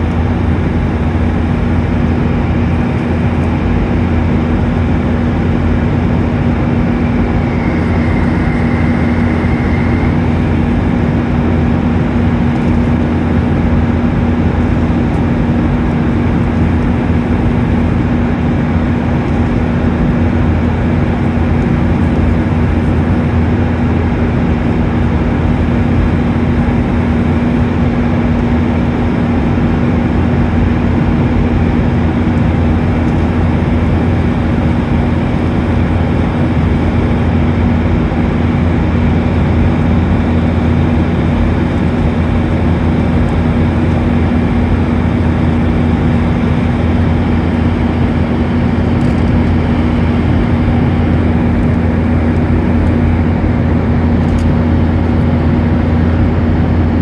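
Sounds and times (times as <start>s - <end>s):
constant low hum: 0.0s - 57.0s
jet engine and airflow rush: 0.0s - 57.0s.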